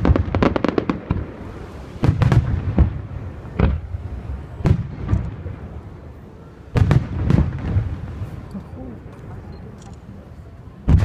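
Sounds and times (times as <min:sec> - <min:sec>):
firework crackling: 0:00.0 - 0:10.2.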